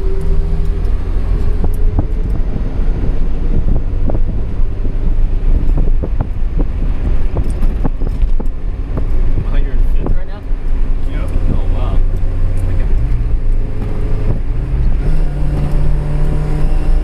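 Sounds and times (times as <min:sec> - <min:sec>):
car engine drone: 0:00.0 - 0:17.0
road rumble: 0:00.0 - 0:17.0
wind buffeting microphone: 0:00.0 - 0:17.0.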